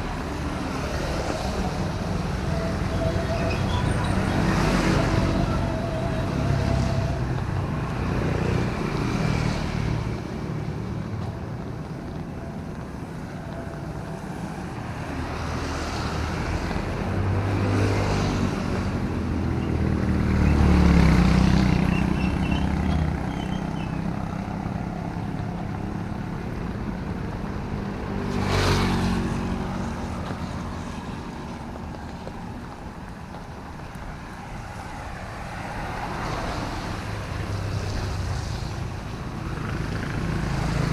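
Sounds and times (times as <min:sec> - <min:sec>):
traffic on wet street: 0:00.0 - 0:40.9
vehicle passing close: 0:00.0 - 0:40.9.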